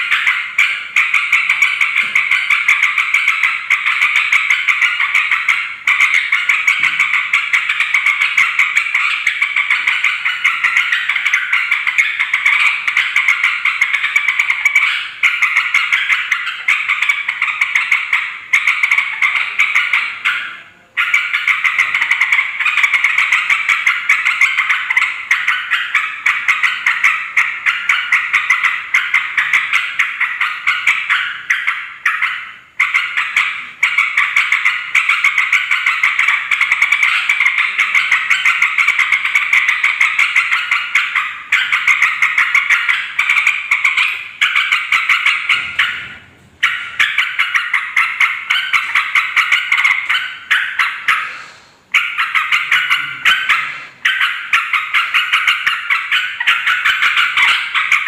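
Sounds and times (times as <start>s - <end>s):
bulbuls chattering and calling: 0.0s - 58.0s.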